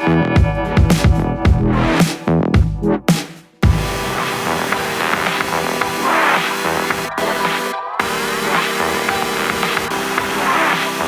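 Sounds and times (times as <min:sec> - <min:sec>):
electronic music with guitar: 0:00.0 - 0:11.0.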